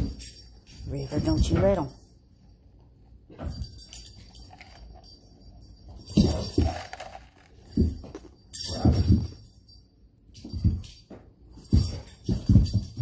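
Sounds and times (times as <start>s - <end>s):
dog collar tags jingling: 0.0s - 2.6s, 3.2s - 13.0s.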